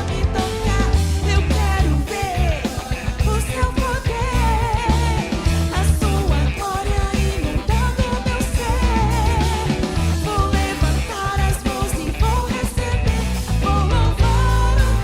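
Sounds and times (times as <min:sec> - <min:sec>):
band with heavy bass and drums: 0:00.0 - 0:15.0
lead vocal singing: 0:00.0 - 0:15.0.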